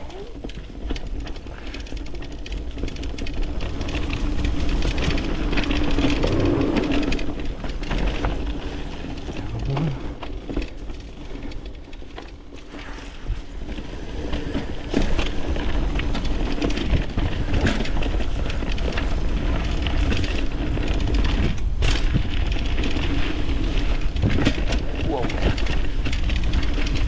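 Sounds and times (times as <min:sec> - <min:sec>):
bike rattling over bumps: 0:00.0 - 0:27.0
bike tyres rolling on dirt: 0:00.0 - 0:27.0
wind rumble on microphone: 0:00.0 - 0:27.0.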